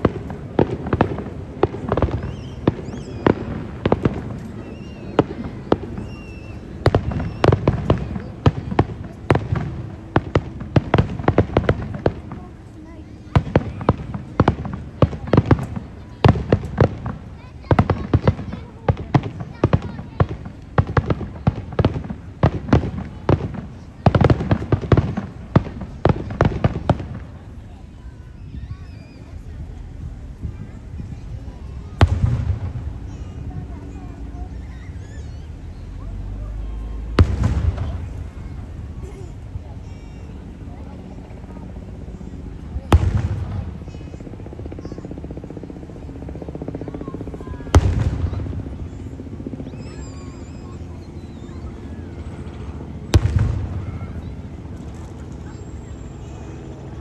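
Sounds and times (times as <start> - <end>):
fireworks bangs: 0.0 - 51.4, 53.0 - 55.8.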